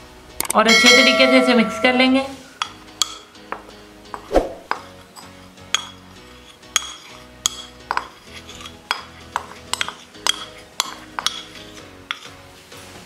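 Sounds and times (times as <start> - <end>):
background music: 0.0 - 13.0
metal spoon clinking against bowls: 0.4 - 3.7, 4.7 - 12.4.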